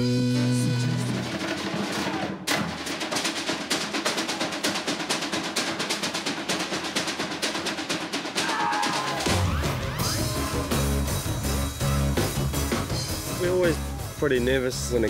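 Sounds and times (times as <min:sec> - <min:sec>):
fast even drumming: 0:00.6 - 0:15.0.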